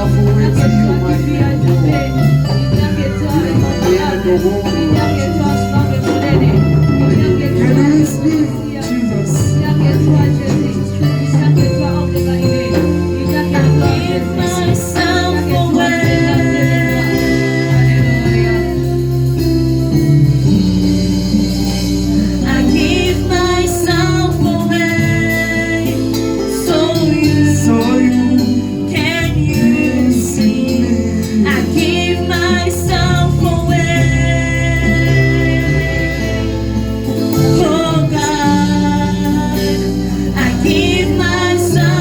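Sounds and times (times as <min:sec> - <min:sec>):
gospel singing: 0:00.0 - 0:42.0
steady bass: 0:00.0 - 0:42.0
sustained keyboard chords: 0:00.0 - 0:42.0.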